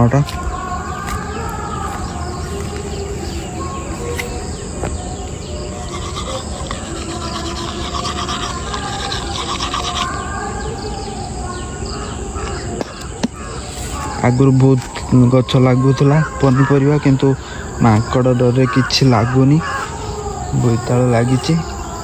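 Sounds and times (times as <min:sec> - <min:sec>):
birds calling: 0:00.0 - 0:22.0
insects chirring: 0:00.0 - 0:22.0.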